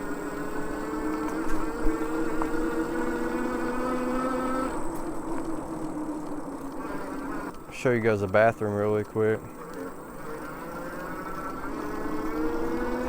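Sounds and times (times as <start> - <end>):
electric bike motor whining: 0.0 - 13.0
fat tyre rumble: 0.0 - 13.0
wind: 0.0 - 13.0.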